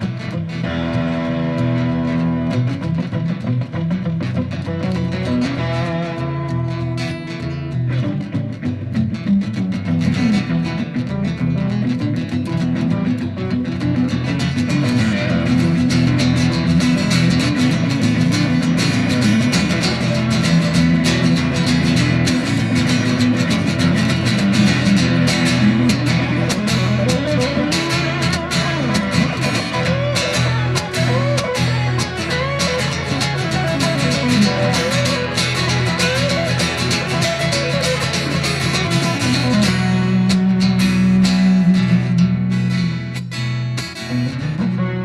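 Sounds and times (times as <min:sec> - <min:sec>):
bass line: 0:00.0 - 0:43.2
guitar instrumental music: 0:00.0 - 0:45.0.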